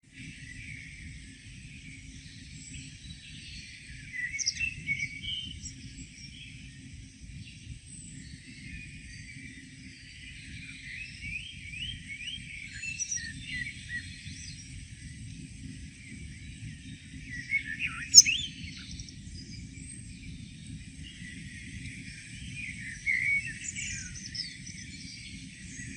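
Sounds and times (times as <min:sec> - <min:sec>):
songbirds chirping and singing: 0:00.4 - 0:07.0, 0:07.6 - 0:25.9.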